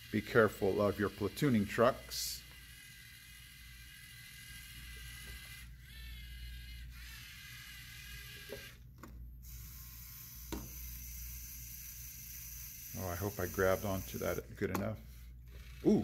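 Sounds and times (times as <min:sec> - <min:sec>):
robot motors whirring: 0:00.0 - 0:16.0.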